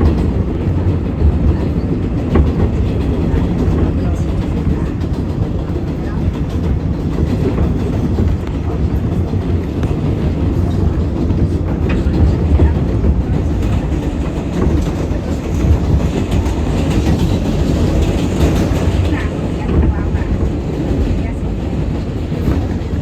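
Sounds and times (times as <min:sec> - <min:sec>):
train wheels rumbling on rail: 0:00.0 - 0:23.0
wheels clicking over rail joints: 0:00.0 - 0:23.0.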